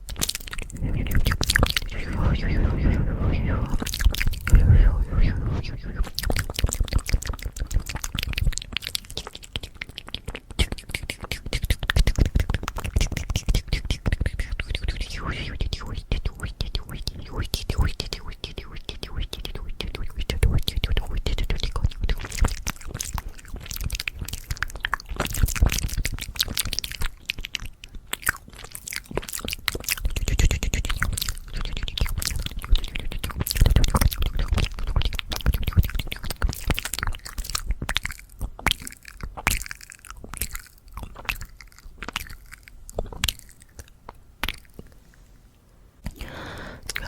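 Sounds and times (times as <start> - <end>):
wet mouth clicks and smacks: 0.0 - 45.0, 46.0 - 47.0.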